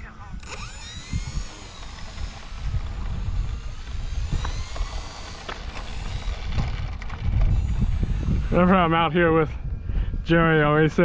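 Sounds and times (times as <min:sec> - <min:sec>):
model airplane motor whine: 0:00.0 - 0:09.2
wind rumble on microphone: 0:00.0 - 0:11.0.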